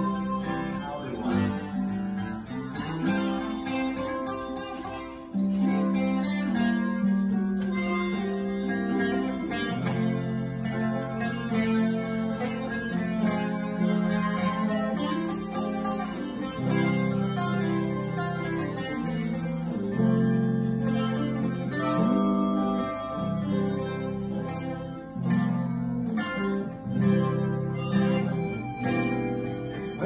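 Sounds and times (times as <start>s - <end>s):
acoustic guitar strumming: 0.0s - 30.0s
electric guitar through an amp: 0.0s - 30.0s
harmonica holding long notes: 0.0s - 30.0s.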